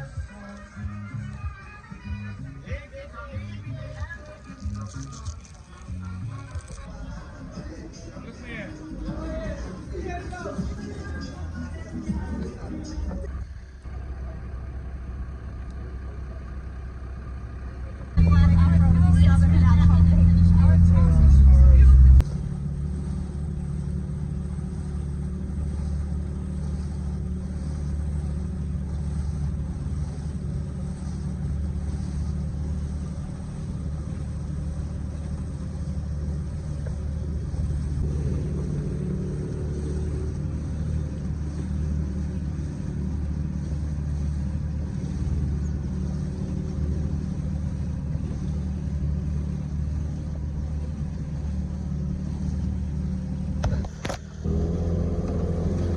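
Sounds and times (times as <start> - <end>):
engine running low drone: 0.0 - 55.9.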